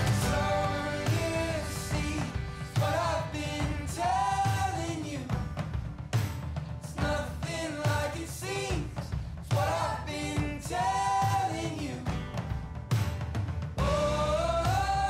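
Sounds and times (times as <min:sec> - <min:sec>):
pop song with singing: 0:00.0 - 0:05.9, 0:06.7 - 0:12.7, 0:13.8 - 0:15.0.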